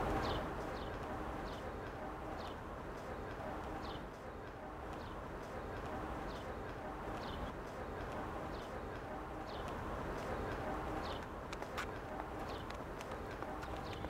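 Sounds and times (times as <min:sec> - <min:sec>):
bird chirping: 0:00.0 - 0:14.0
outdoor background noise: 0:00.0 - 0:14.0.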